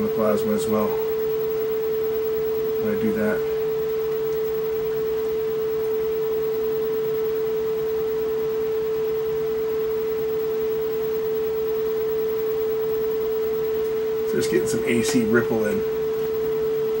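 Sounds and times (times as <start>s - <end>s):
steady electronic tone: 0.0s - 17.0s.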